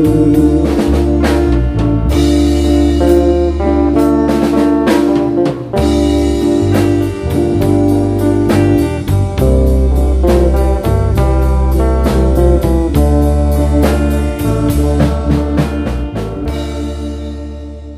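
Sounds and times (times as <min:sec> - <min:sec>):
bass guitar: 0:00.0 - 0:17.9
drum kit with cymbals: 0:00.0 - 0:17.9
electric guitar: 0:00.0 - 0:17.9.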